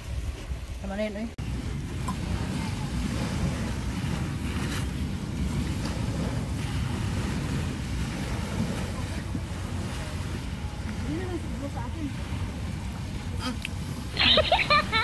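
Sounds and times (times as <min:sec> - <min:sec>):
small waves washing onto shore: 0:00.0 - 0:15.0
wind buffeting microphone: 0:00.0 - 0:15.0.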